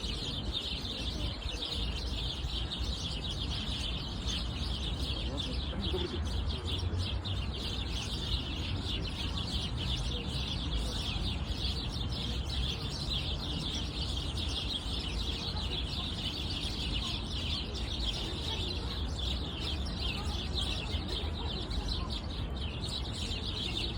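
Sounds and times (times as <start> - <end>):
small songbirds chirping: 0.0 - 23.9.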